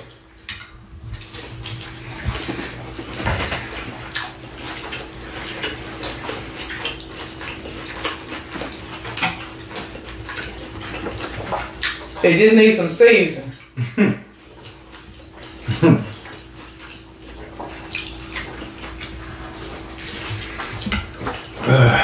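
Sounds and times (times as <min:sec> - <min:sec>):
close chewing with crunches: 0:00.0 - 0:12.2, 0:14.4 - 0:22.0.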